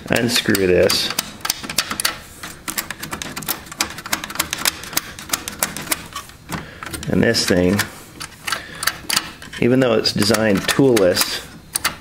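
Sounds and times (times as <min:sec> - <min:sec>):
metallic clicks and taps: 0:00.0 - 0:12.0.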